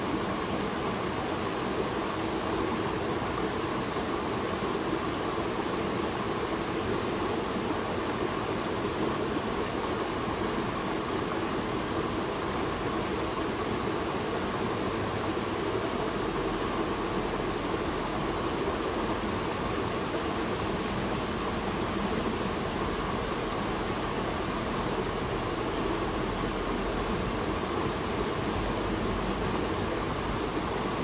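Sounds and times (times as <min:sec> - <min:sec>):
river flowing: 0:00.0 - 0:31.0.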